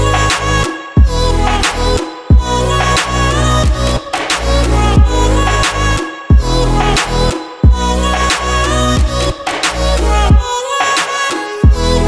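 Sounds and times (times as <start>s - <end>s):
pop song with strong bass: 0.0s - 12.0s.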